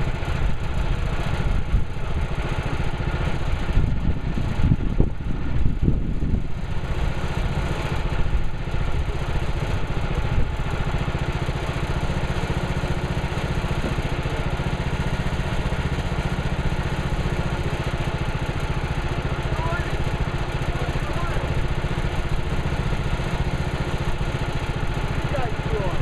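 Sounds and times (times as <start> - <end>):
sawmill petrol engine running: 0.0 - 26.0.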